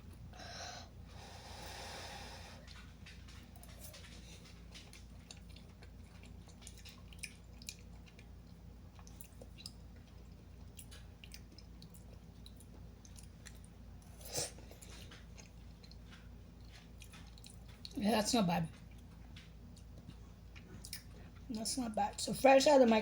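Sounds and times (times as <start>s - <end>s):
person chewing noodles: 0.1s - 18.0s, 18.7s - 21.5s.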